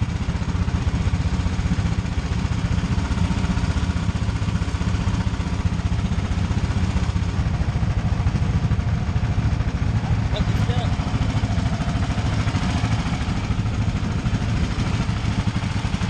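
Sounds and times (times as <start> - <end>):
go-kart engine idling: 0.0 - 16.0.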